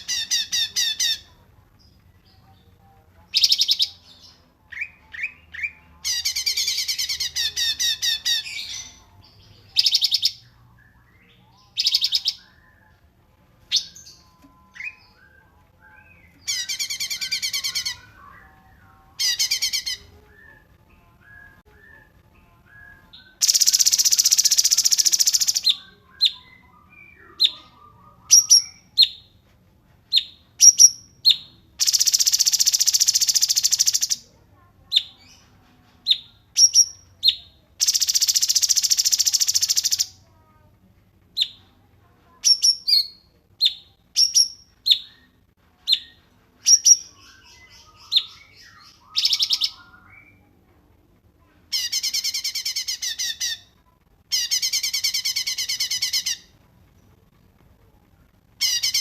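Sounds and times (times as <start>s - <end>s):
songbird chirps and trills: 0.0s - 59.0s.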